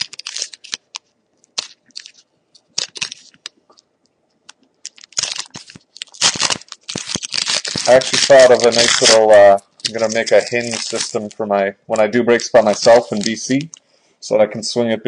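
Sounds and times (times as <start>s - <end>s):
card pack wrapper tearing: 0.0s - 3.5s, 4.8s - 13.8s.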